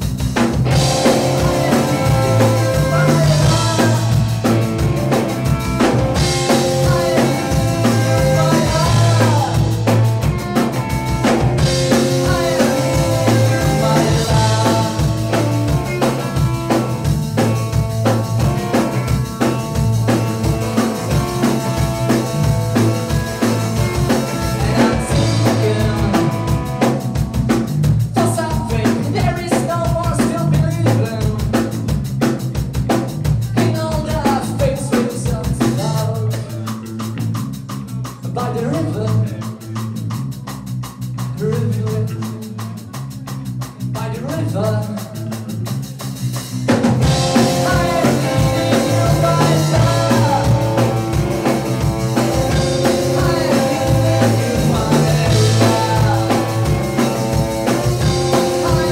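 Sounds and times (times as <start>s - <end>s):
electric guitar: 0.0s - 40.2s, 41.2s - 58.9s
drum kit beat: 0.0s - 58.9s
electric bass: 0.0s - 58.9s.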